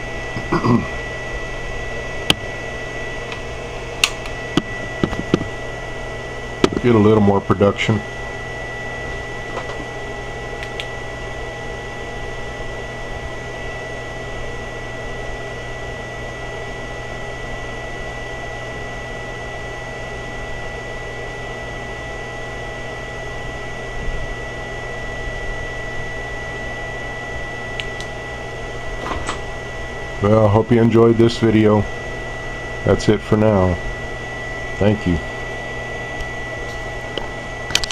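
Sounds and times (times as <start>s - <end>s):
cooling fan noise: 0.0s - 37.9s
electrical hum: 0.0s - 37.9s
high whine: 0.0s - 37.9s.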